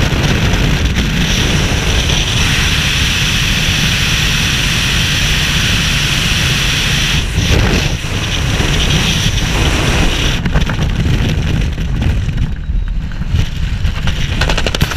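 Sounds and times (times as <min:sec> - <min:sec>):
low rumble: 0:00.0 - 0:14.9
wind rushing over helmet: 0:00.0 - 0:14.9.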